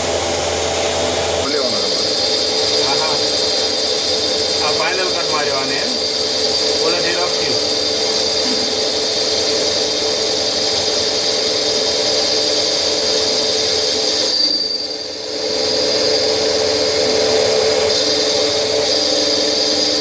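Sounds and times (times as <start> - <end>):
machine whine: 0.0 - 20.0.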